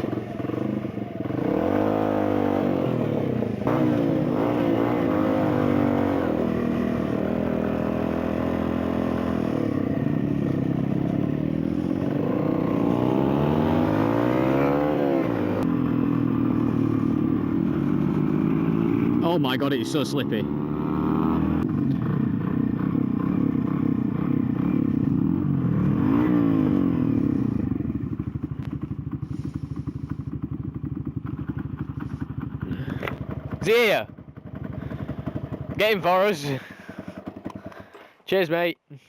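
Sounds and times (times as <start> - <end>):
motorcycle engine accelerating: 0.0 - 38.2.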